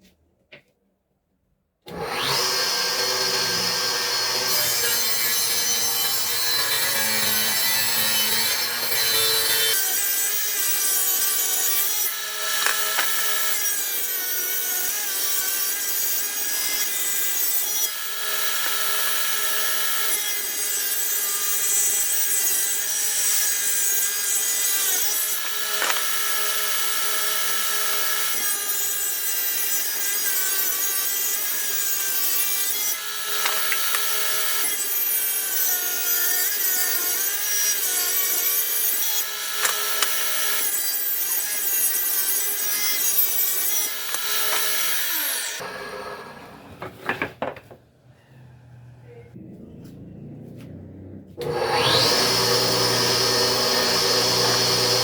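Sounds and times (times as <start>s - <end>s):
power tool cutting wood: 1.9s - 47.2s, 51.4s - 55.0s.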